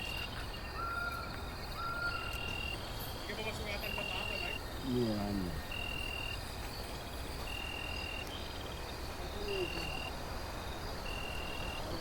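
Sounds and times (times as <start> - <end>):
background hiss: 0.0 - 12.0
insect pulsed trills: 0.0 - 12.0.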